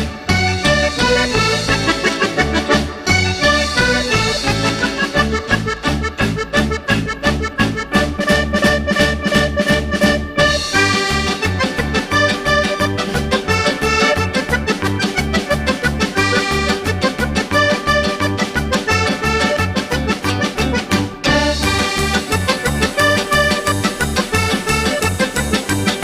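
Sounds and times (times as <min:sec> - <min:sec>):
upbeat accordion music: 0:00.0 - 0:26.0.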